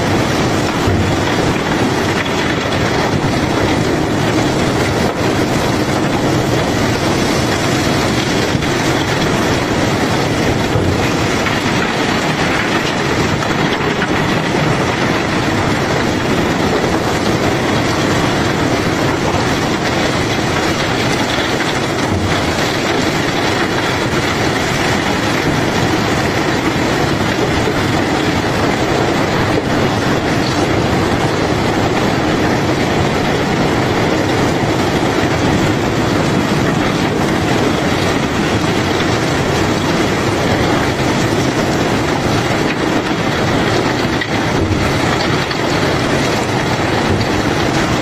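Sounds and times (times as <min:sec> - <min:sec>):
machinery rumbling and rattling: 0:00.0 - 0:48.0.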